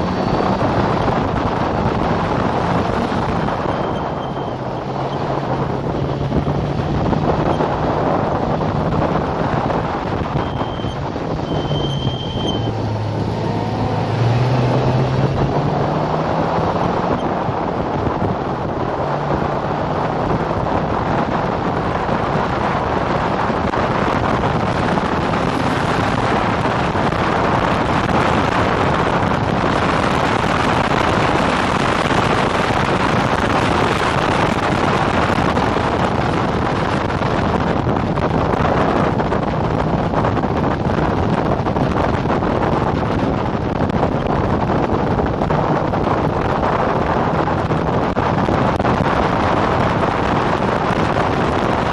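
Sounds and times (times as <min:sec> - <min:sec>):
race car engine running hard: 0:00.0 - 0:51.9
wind buffeting microphone: 0:00.0 - 0:51.9.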